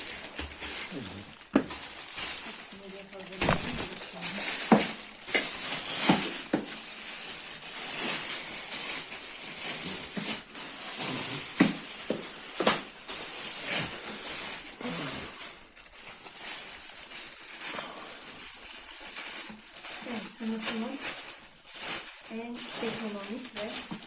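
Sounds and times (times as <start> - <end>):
plastic packaging rustling: 0.0 - 24.0.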